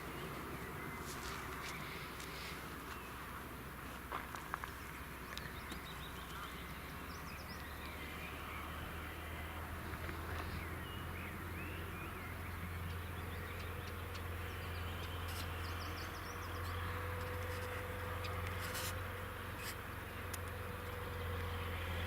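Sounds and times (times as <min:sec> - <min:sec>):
birds chirping: 0:00.0 - 0:22.0
low mechanical hum: 0:00.0 - 0:22.0.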